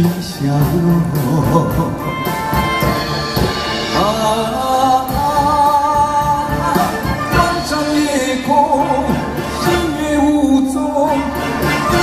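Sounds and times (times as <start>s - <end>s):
slow pop ballad played live: 0.0s - 12.0s.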